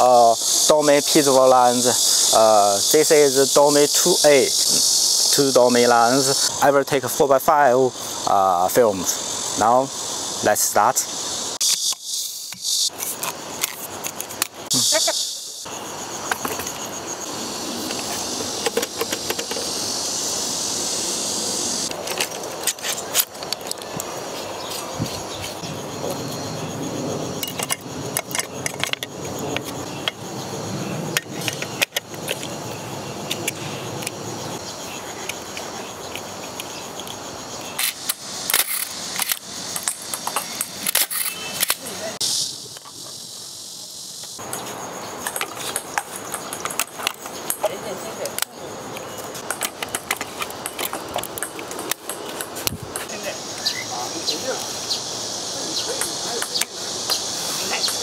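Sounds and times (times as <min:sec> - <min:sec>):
high insect buzz: 0:00.0 - 0:58.0
outdoor background hiss: 0:00.0 - 0:58.0.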